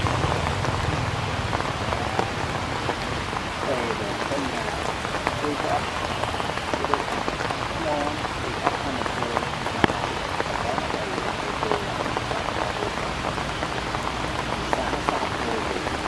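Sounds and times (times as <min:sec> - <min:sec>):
raindrops tapping on surfaces: 0:00.0 - 0:16.0
steady rain: 0:00.0 - 0:16.0.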